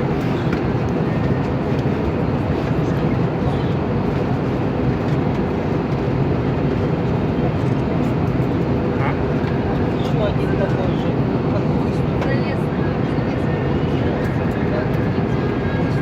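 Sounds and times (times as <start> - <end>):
airliner cabin airflow and engine: 0.0 - 16.0.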